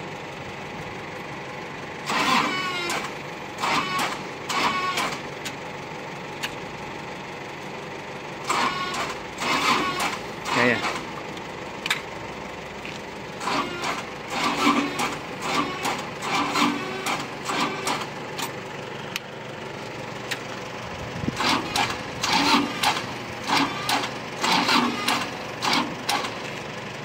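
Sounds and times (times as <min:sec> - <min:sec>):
machine engine rhythmic pulsing: 0:00.0 - 0:27.0.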